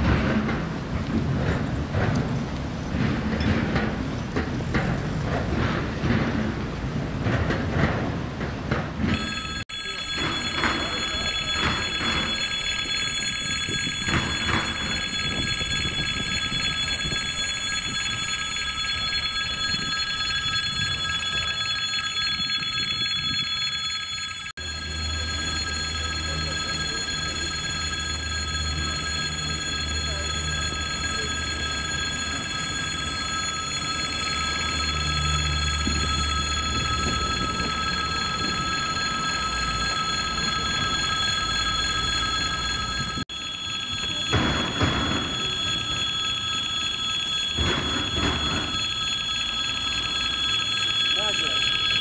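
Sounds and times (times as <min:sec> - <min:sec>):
railway crossing bell ringing: 0:00.0 - 0:52.0.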